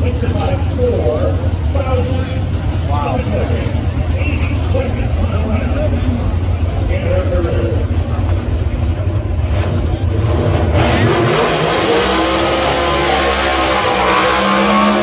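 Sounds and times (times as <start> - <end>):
drag racing engines revving: 0.0 - 15.0.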